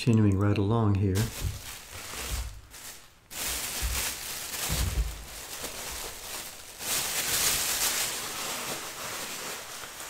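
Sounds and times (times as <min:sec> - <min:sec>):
plastic bag rustling: 0:01.1 - 0:10.0.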